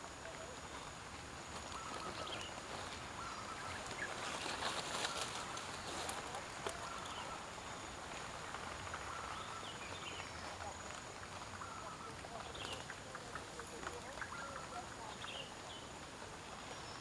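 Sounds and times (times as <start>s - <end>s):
crackling rustle in grass: 0.0s - 17.0s
high bird calls: 1.6s - 10.7s, 11.5s - 17.0s.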